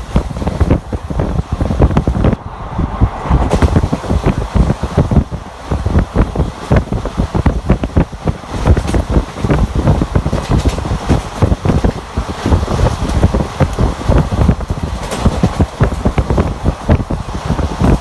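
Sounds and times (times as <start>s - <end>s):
train wheels rumbling on track: 0.0s - 18.0s
wind buffeting microphone: 0.0s - 18.0s
rapid irregular clatter: 3.5s - 18.0s.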